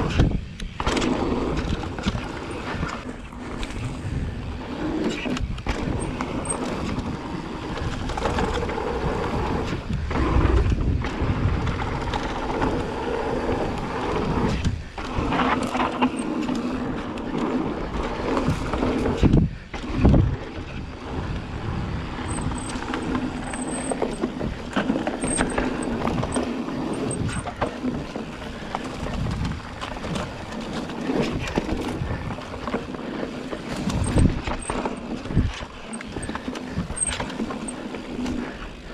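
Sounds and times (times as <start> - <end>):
bike rattling over bumps: 0.0 - 38.9
bike tyres crunching over dirt: 0.0 - 38.9.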